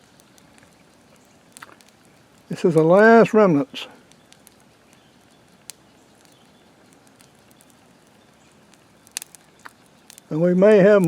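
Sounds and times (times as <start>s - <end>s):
faint steady hiss: 0.0s - 11.0s
fire pops and crackles: 0.0s - 11.0s.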